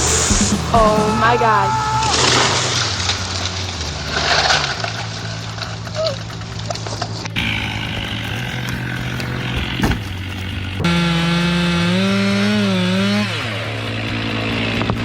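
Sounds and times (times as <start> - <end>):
chainsaw at full throttle: 0.0 - 15.0
low machine hum: 0.0 - 15.0.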